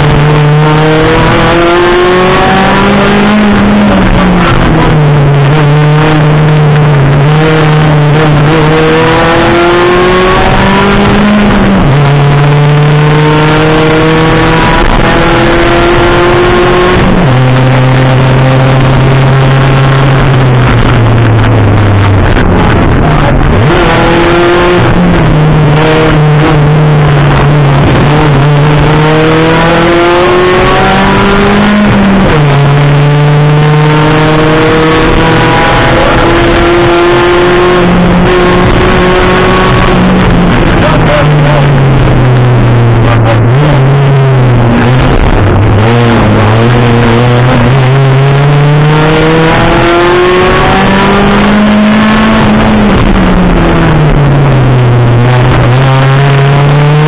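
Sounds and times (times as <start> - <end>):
rally car engine revving: 0.0 - 57.0
road and tyre noise: 0.0 - 57.0.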